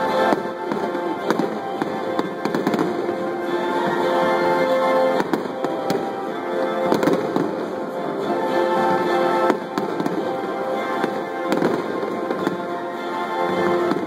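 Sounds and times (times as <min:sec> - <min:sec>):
fireworks bursting bangs: 0:00.0 - 0:14.0
music of long held notes: 0:00.0 - 0:14.0.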